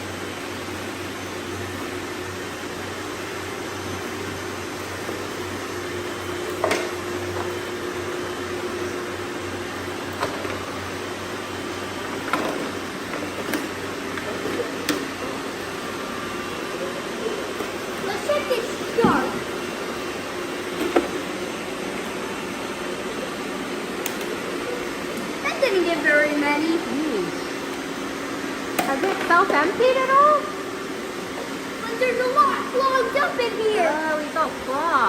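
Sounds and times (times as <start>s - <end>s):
robot vacuums whirring: 1.6s - 35.0s.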